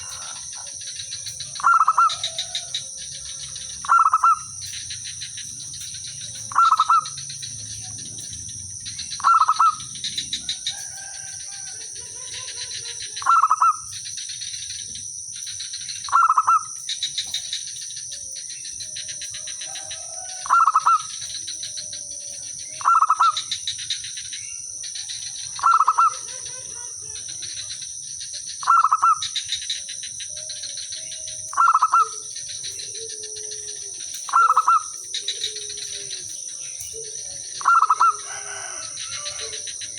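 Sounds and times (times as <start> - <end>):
dove cooing song: 0.0 - 39.9
faint bird calls: 0.0 - 39.9
high insect buzz: 0.0 - 39.9.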